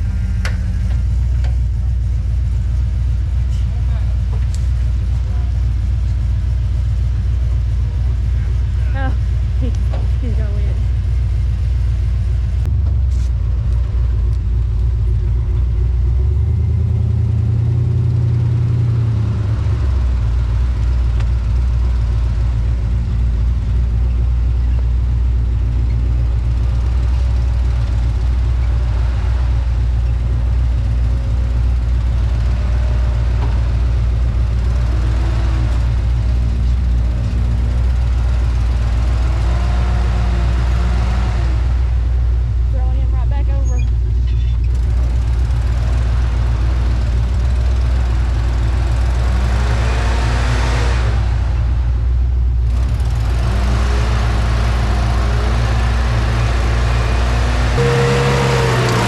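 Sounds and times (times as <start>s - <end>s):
engine deep rumble: 0.0s - 59.0s.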